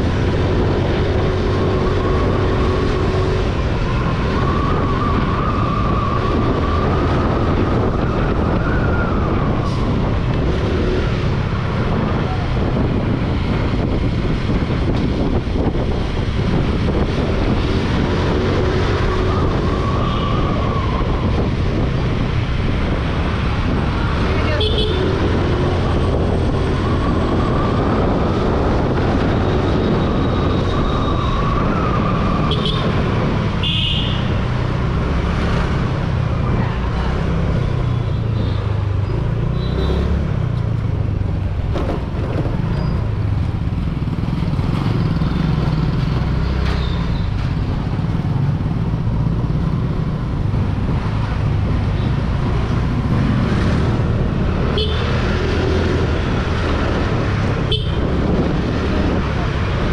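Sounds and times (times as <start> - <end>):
road and traffic rumble: 0.0 - 59.9.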